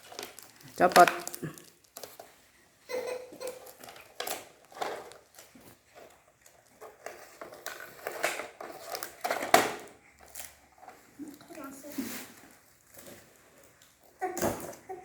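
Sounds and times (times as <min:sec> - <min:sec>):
plastic toy rustling and clicking: 0:00.0 - 0:14.9.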